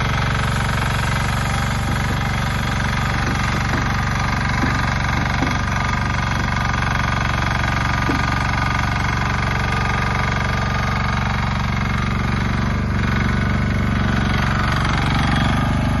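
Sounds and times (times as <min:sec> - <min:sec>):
machine moving on tracks: 0:00.0 - 0:13.3
diesel engine running: 0:00.0 - 0:16.0
hydraulic skip lowering: 0:00.0 - 0:16.0.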